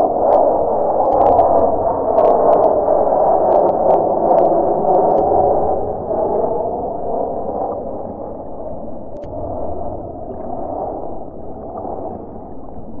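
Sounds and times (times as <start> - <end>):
jet engine rumble overhead: 0.0 - 13.0.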